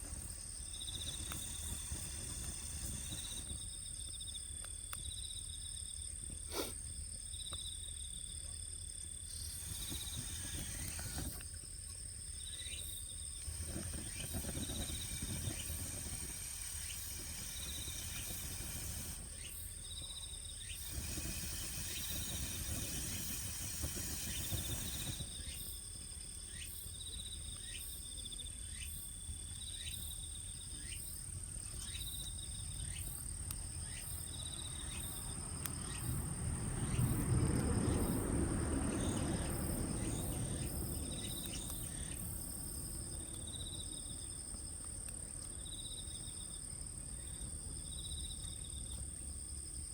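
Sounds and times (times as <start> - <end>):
hiss: 0.0 - 5.1, 6.3 - 7.6, 9.1 - 46.7
insects chirping: 0.0 - 49.9.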